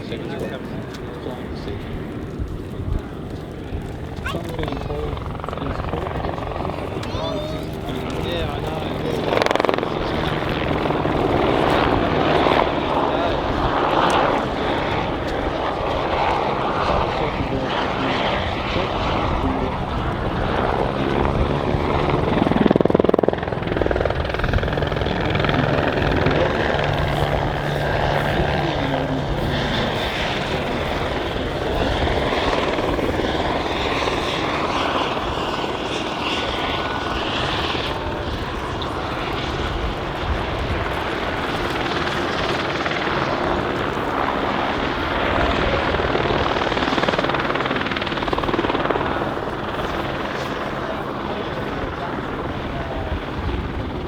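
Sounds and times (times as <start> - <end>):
helicopter rotors droning: 0.0 - 54.0.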